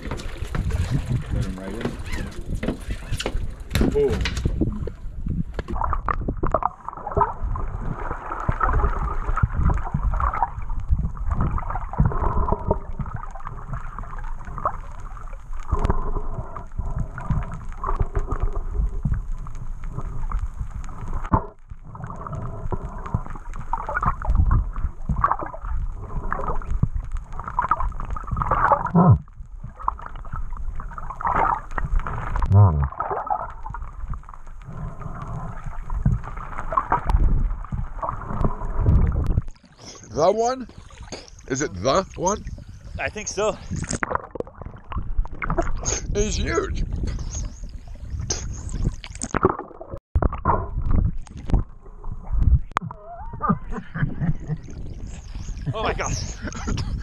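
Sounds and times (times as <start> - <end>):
underwater swishing and gurgling: 0.0 - 57.0.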